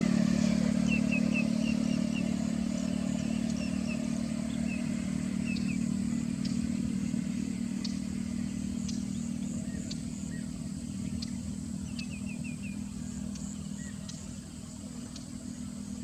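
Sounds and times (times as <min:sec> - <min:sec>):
low mechanical hum: 0:00.0 - 0:16.0
small birds chirping: 0:00.0 - 0:16.0.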